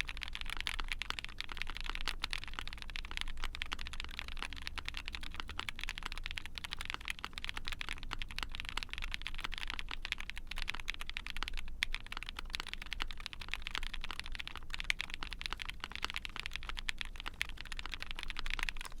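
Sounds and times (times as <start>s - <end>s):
fast typing on mechanical keyboard: 0.0s - 19.0s.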